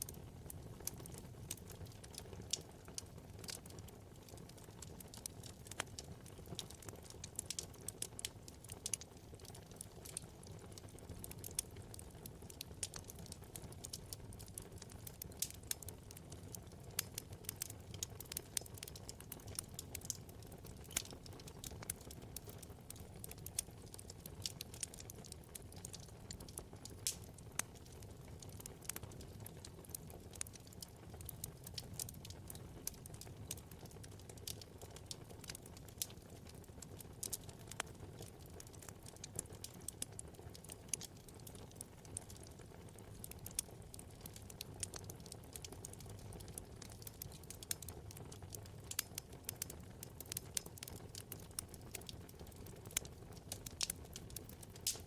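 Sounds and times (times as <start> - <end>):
logs crackling and popping: 0.0 - 55.0
low rumble of flame: 0.0 - 55.0.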